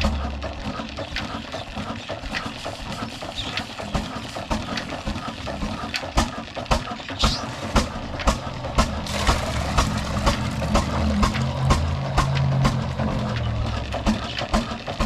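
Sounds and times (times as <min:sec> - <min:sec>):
diesel engine knocking: 0:00.0 - 0:15.0.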